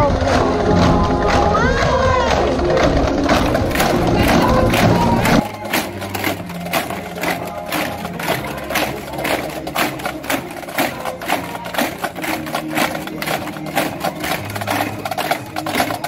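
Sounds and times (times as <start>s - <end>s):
low band tones: 0.0s - 16.0s
snare drum beat: 0.1s - 16.0s.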